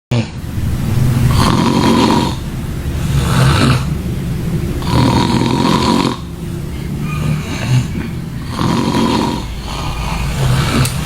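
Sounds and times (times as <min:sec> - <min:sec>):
person snoring loudly: 0:01.2 - 0:04.2, 0:04.8 - 0:11.0.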